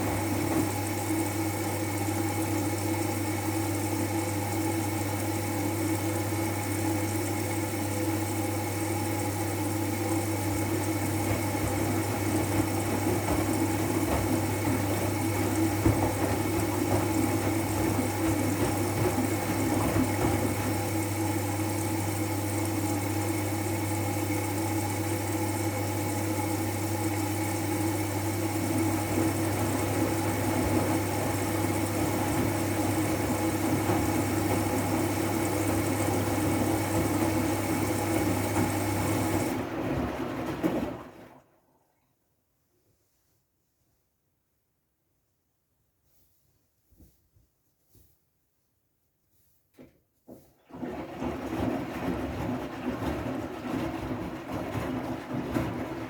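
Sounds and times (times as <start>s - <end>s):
washing machine motor hum: 0.0s - 41.6s, 50.3s - 56.0s.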